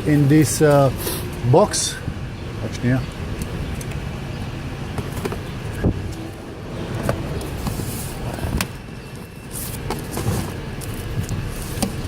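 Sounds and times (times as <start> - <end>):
low background rumble: 1.3 - 11.7.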